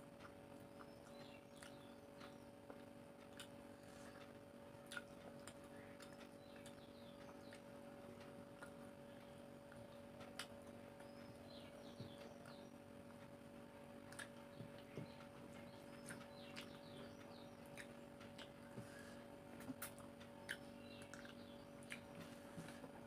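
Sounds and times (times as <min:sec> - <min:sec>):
steady low hum: 0:00.0 - 0:23.0
mouth chewing: 0:00.2 - 0:13.2, 0:14.0 - 0:23.0.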